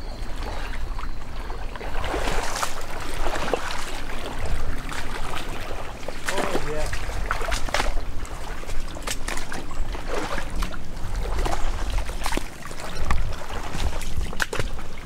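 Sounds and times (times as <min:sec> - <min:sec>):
water sloshing around waders: 0:00.0 - 0:15.0
short splashes: 0:01.8 - 0:15.0.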